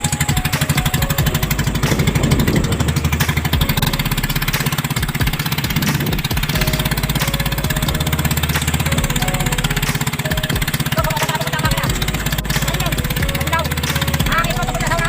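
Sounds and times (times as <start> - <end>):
small boat engine running: 0.0 - 15.0.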